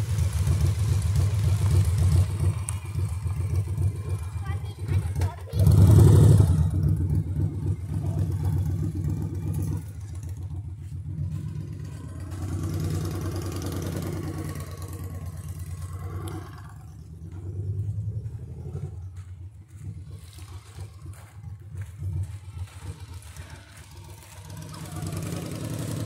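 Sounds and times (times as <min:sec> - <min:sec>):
motorcycle engine passing: 0:00.0 - 0:26.0.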